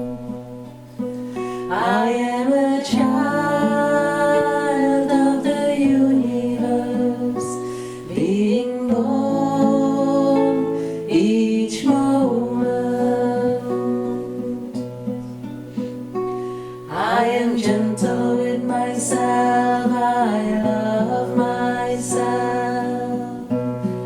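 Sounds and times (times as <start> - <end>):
acoustic guitar strumming: 0.0 - 24.0
person singing: 1.4 - 15.0, 16.9 - 23.6.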